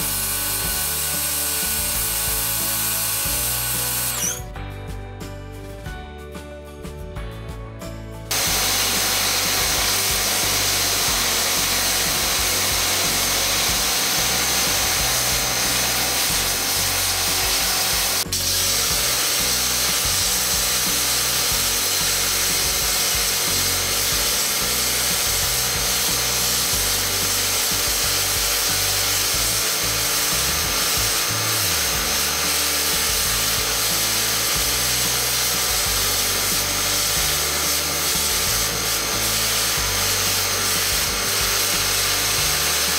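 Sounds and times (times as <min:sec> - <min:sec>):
pressure washer spraying metal chain: 0:00.0 - 0:04.5, 0:08.3 - 0:42.9.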